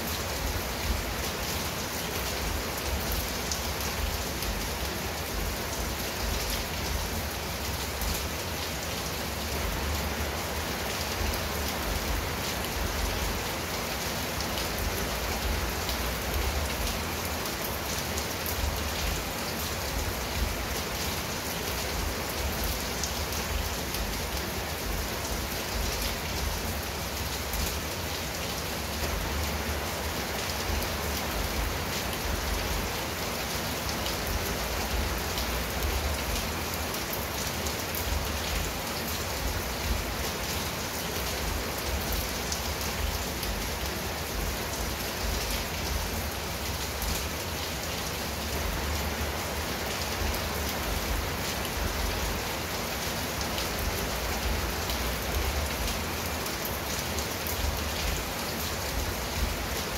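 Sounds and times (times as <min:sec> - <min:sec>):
rain on a tiled roof: 0:00.0 - 0:59.9.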